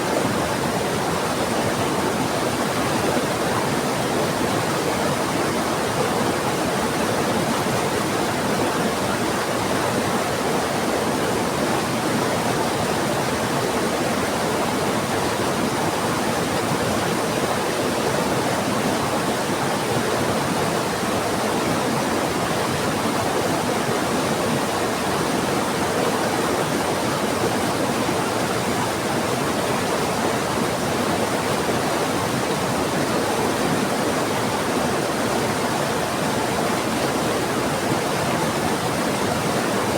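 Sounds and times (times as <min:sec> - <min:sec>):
fast-flowing river rushing: 0:00.0 - 0:39.9.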